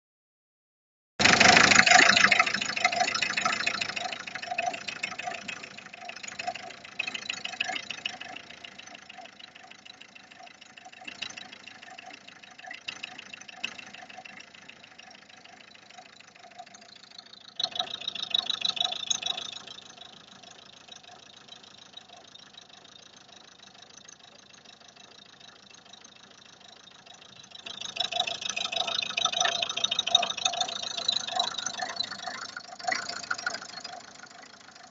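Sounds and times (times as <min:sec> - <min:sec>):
car engine knocking: 0:01.2 - 0:34.9.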